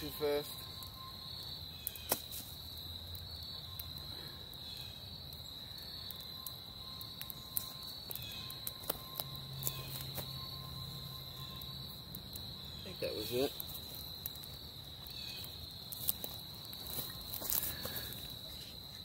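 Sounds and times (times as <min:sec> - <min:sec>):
campfire crackling: 0:00.0 - 0:19.0
crickets trilling: 0:00.0 - 0:19.0.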